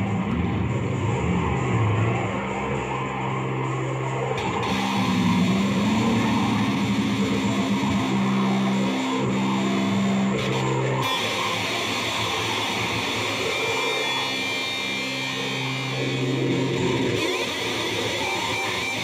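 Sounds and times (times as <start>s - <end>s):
loud distorted hiss: 0.0s - 19.0s
low droning tones: 0.0s - 19.0s
thin high whine: 0.0s - 19.0s.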